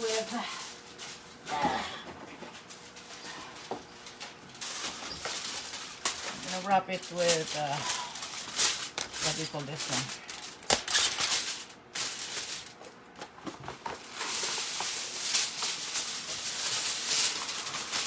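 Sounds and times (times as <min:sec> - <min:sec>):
aluminium foil crinkling: 0:00.0 - 0:01.7, 0:02.5 - 0:18.0.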